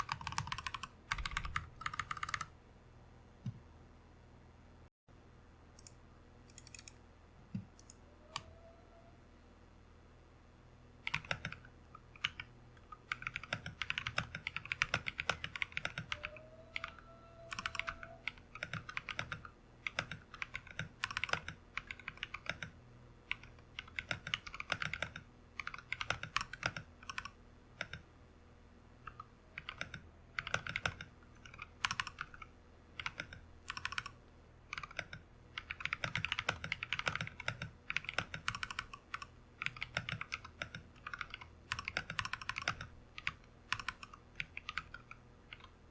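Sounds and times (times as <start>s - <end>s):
fast mechanical keyboard typing: 0.0s - 2.5s, 6.5s - 7.0s, 11.0s - 28.0s, 29.1s - 45.9s.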